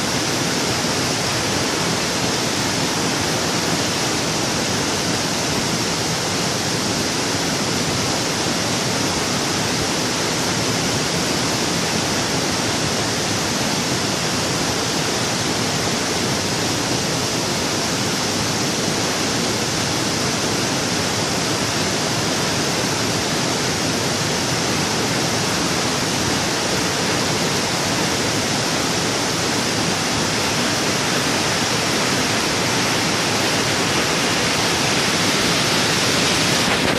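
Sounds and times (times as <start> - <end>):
waterfall roaring: 0.0 - 36.9.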